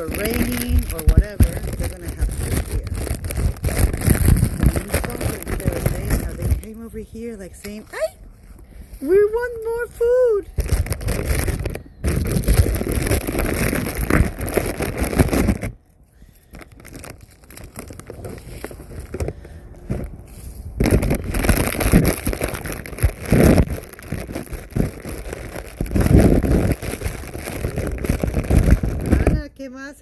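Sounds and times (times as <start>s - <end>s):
crackers being crushed: 0.0s - 7.0s, 10.5s - 29.4s.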